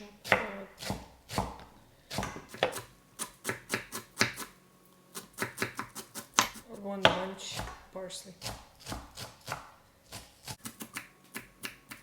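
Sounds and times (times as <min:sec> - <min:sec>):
knife chopping on cutting board: 0:00.2 - 0:04.5, 0:05.1 - 0:12.0.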